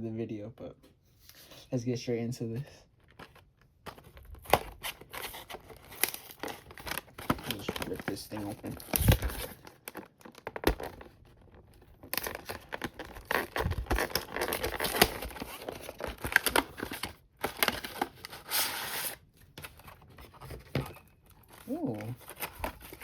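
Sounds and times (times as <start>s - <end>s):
plastic wrap crackling and tearing: 3.0s - 19.9s, 21.2s - 23.0s.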